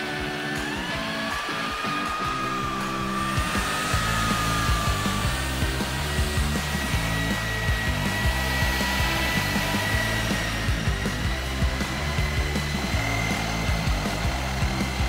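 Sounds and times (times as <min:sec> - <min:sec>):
background music with bass and beat: 0:00.0 - 0:15.0
car polisher motor whine: 0:00.0 - 0:15.0.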